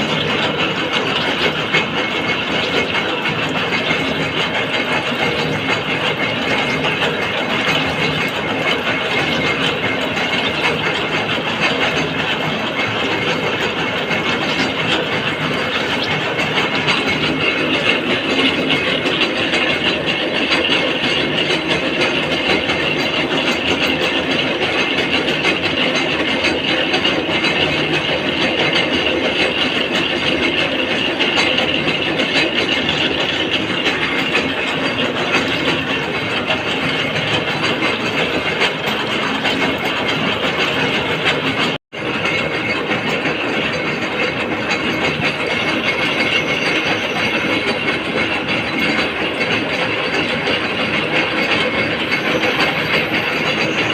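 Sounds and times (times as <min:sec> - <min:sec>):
gear cutting machine grinding: 0:00.0 - 0:53.9.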